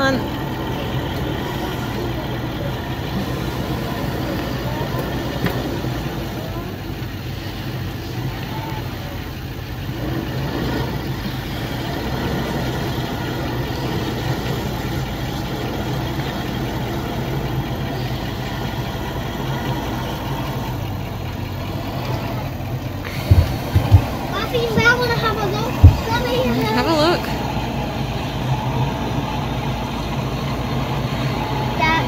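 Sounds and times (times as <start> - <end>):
vehicle engine running at low revs: 0.0 - 32.0.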